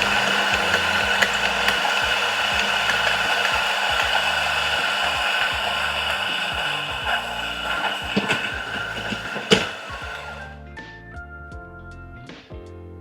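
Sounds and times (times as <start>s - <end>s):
coffee machine motor whine: 0.0s - 10.6s.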